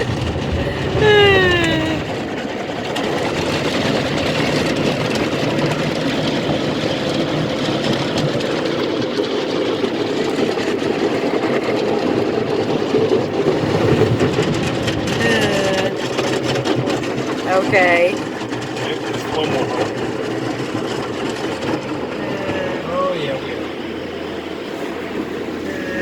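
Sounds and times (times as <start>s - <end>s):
car wash water spray and machinery: 2.1s - 26.0s.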